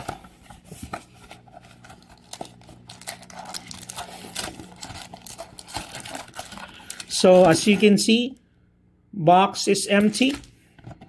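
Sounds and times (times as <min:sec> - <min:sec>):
card packs crinkling and rustling: 0:00.0 - 0:08.2, 0:10.0 - 0:11.0.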